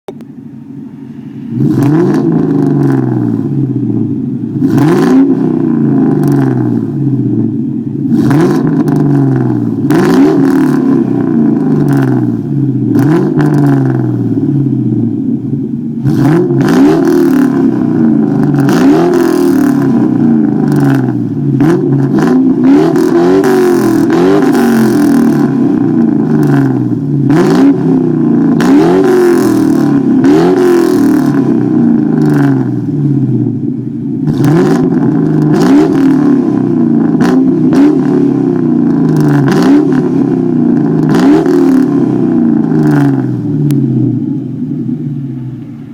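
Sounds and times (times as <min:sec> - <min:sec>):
car engine revving: 0:00.1 - 0:45.9.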